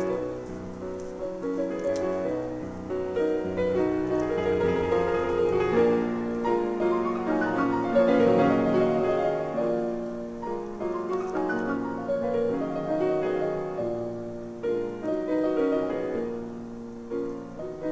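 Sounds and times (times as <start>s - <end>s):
piano music: 0.0s - 17.9s.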